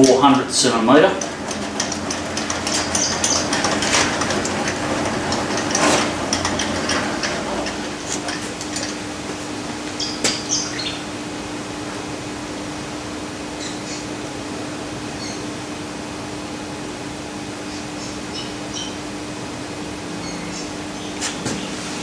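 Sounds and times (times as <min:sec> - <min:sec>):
steady room hum: 0:00.0 - 0:22.0.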